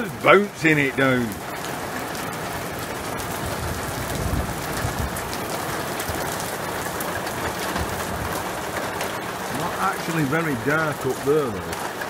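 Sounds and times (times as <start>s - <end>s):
heavy rain on paving: 0.0s - 12.0s.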